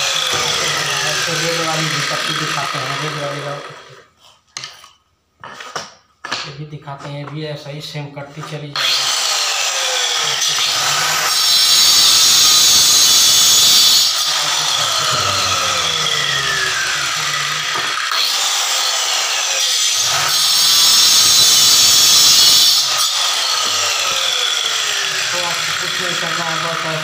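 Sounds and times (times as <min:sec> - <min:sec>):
electric cutter grinding marble: 0:00.0 - 0:04.1, 0:08.8 - 0:27.0.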